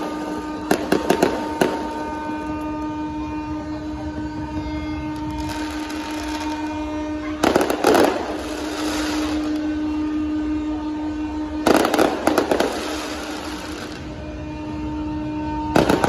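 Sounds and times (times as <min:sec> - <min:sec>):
fireworks bangs and crackles: 0:00.0 - 0:16.0
tugboat horns blasting: 0:00.0 - 0:16.0.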